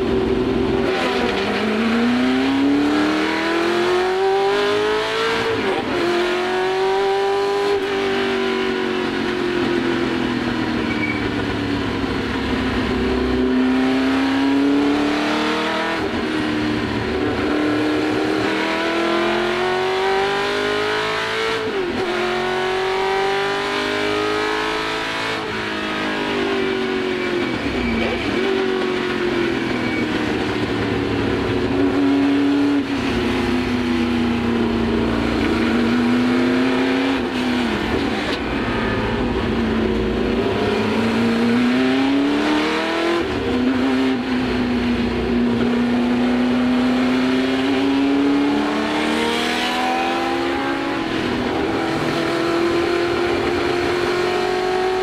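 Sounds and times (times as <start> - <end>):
racing car engine revving: 0.0 - 55.0.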